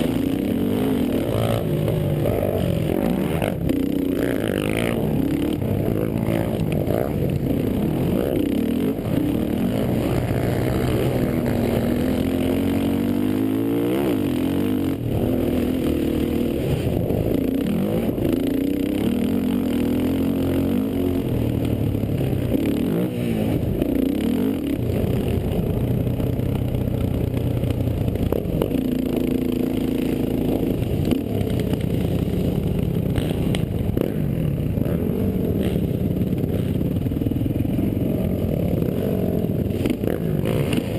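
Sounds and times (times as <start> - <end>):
quad engines revving: 0.0 - 40.9.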